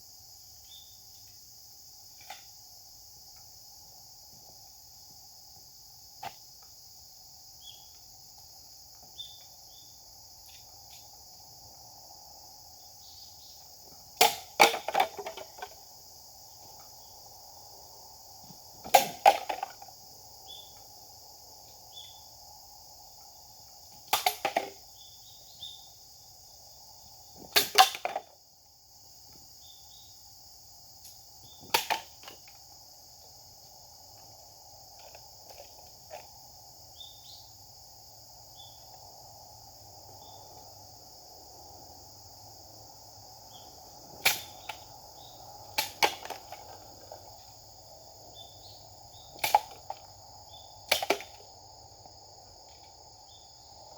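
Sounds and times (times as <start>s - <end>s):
insect chirring: 0.0s - 53.9s.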